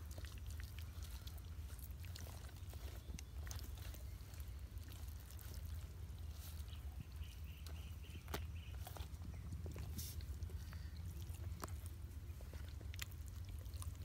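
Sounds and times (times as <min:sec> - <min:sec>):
hands squishing wet paste: 0:00.0 - 0:14.0
steady low hum: 0:00.0 - 0:14.0.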